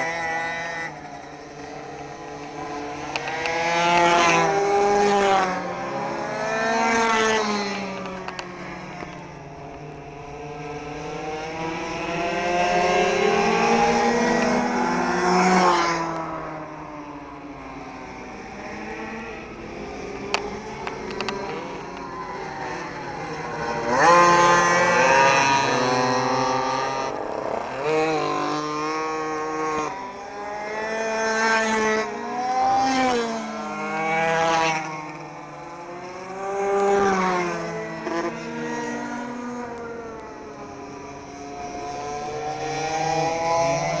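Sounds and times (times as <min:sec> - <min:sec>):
pocket bike engines racing: 0:00.0 - 0:44.0.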